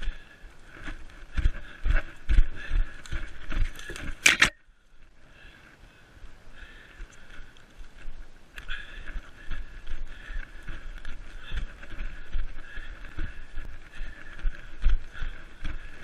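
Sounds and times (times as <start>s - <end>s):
running footsteps on forest floor: 0.0s - 16.0s.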